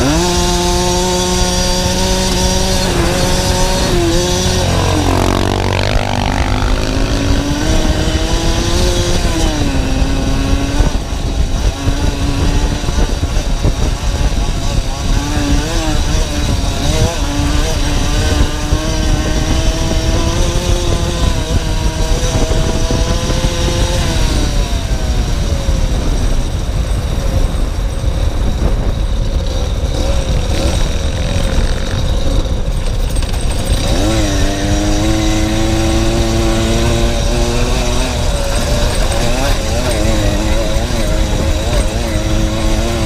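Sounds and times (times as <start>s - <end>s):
small motorcycle engine revving: 0.0s - 43.0s
wind rumble on microphone: 0.0s - 43.0s.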